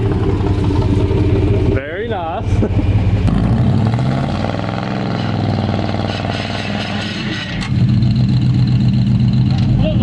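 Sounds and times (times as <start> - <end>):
truck engine running under load: 0.0 - 10.0.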